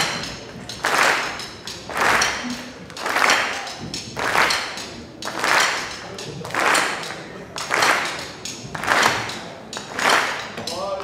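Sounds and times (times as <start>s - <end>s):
drumsticks striking wooden stools: 0.0s - 11.0s.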